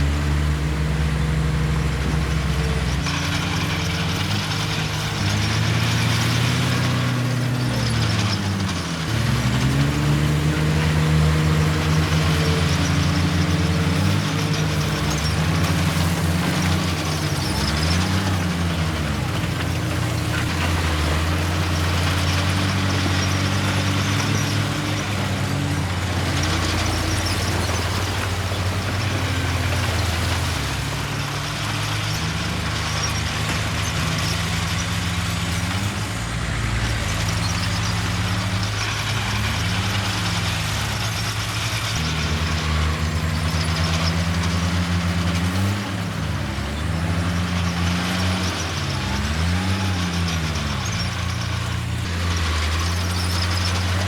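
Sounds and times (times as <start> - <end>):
heavy diesel engines revving: 0.0 - 54.0.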